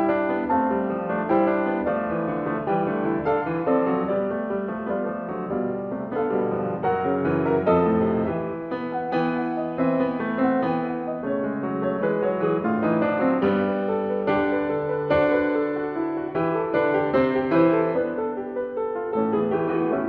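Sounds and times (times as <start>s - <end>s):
lively solo piano: 0.0s - 20.0s.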